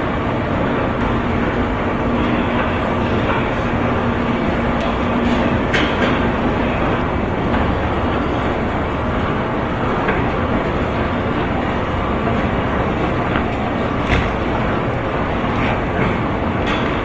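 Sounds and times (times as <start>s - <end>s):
conveyor belt rumbling: 0.0s - 17.0s.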